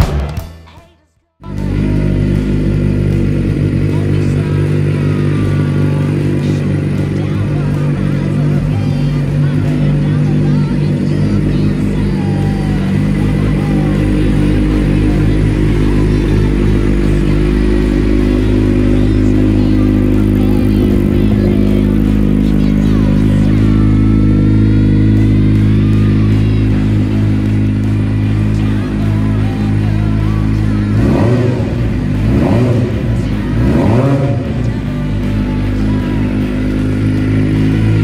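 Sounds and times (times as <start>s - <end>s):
motorcycle engine idling: 1.4s - 38.0s.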